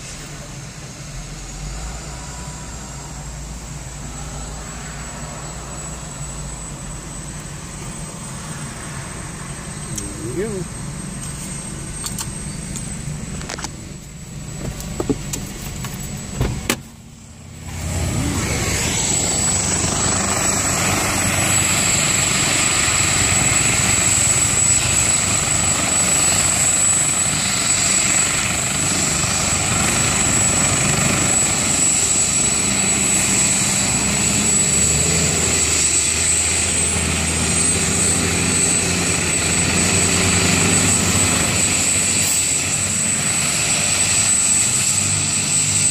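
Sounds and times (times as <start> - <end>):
helicopter rotor and engine noise: 0.0 - 45.9
helicopter turbine whine: 0.0 - 45.9.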